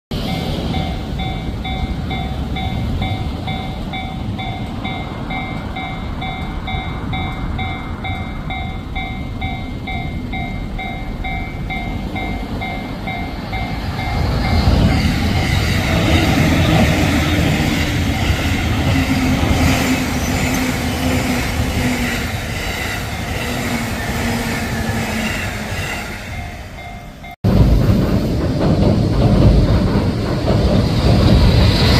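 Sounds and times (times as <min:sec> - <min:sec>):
electric train rumbling past: 0:00.1 - 0:31.9.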